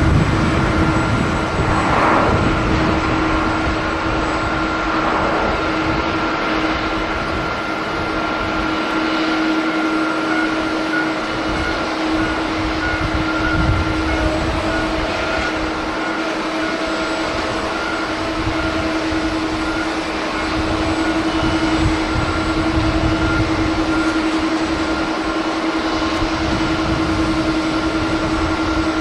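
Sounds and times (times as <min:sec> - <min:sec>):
wind buffeting microphone: 0:00.0 - 0:09.9, 0:10.6 - 0:29.0
jet engines whining: 0:00.0 - 0:29.0.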